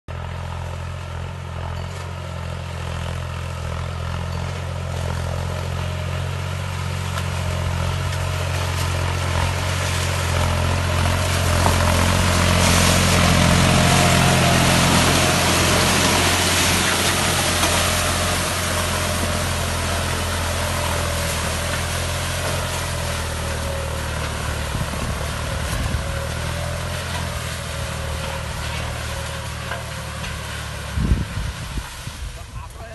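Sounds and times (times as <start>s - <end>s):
harrow discs churning soil: 0.1s - 32.9s
tractor diesel engine under load: 0.1s - 32.9s.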